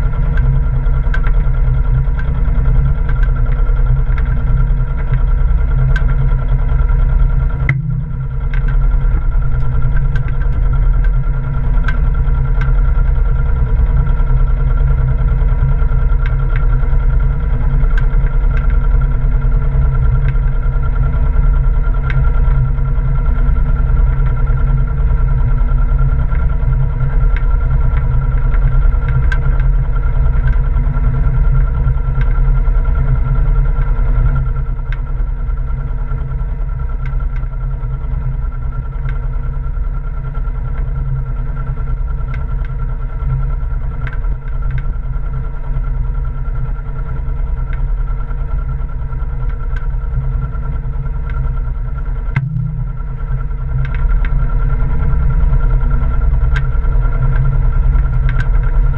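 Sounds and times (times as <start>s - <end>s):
boat engine running: 0.0s - 38.6s, 40.6s - 58.9s.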